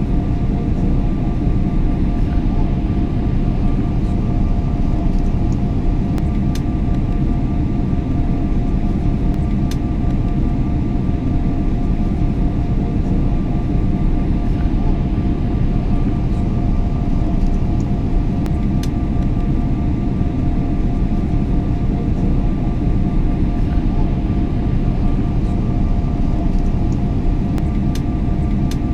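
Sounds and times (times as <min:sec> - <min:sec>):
airliner cabin rumble: 0:00.0 - 0:28.9
faint two-tone hum: 0:00.0 - 0:28.9.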